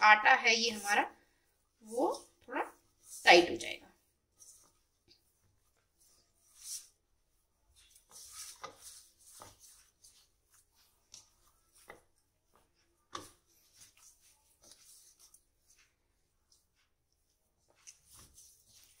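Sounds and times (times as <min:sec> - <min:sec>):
hands kneading dough: 0:00.5 - 0:19.0.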